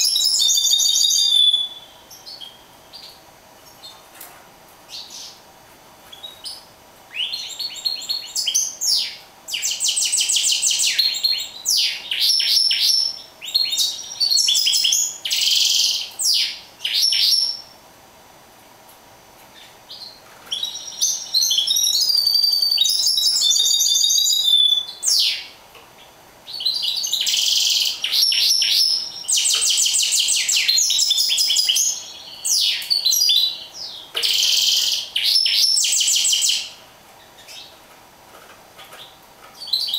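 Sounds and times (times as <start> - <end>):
bird singing chirps and trills: 0.0 - 4.0, 6.1 - 17.7, 19.6 - 37.8, 39.0 - 39.9.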